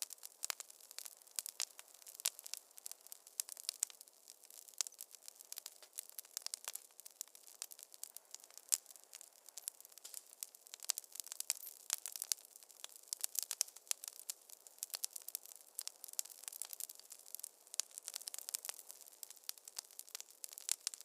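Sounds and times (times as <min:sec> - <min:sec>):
faint hiss: 0:00.0 - 0:21.0
wood fire crackling: 0:00.0 - 0:21.0.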